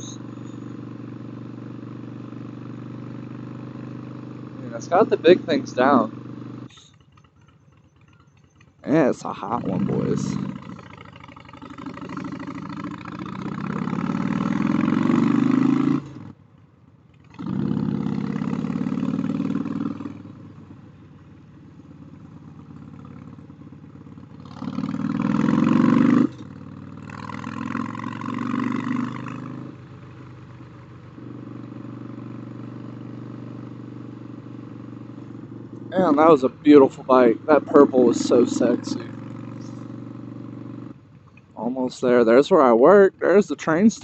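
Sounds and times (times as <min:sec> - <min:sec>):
motorcycle engine pulling hard: 0:00.0 - 0:16.4, 0:17.1 - 0:44.0.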